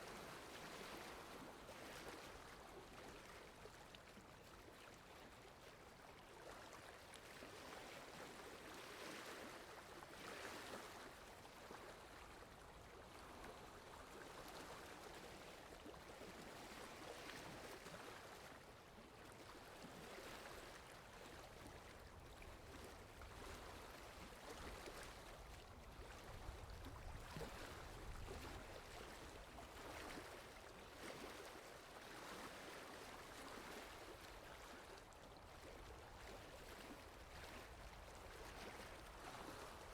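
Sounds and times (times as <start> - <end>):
faint water lapping: 0.0 - 39.9.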